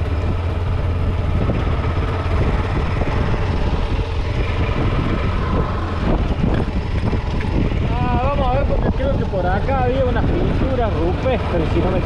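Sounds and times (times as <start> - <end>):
motorcycle engine rumble: 0.0 - 12.0
wind noise on microphone: 0.0 - 12.0.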